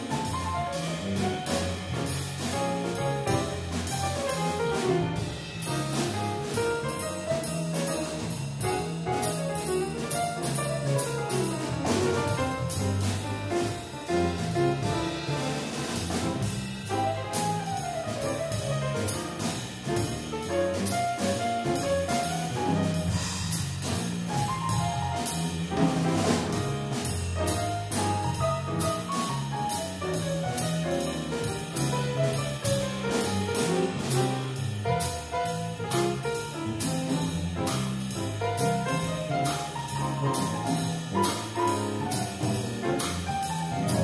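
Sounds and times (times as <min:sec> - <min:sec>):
jazz piano: 0:00.0 - 0:44.0
steady drum beat: 0:00.0 - 0:44.0.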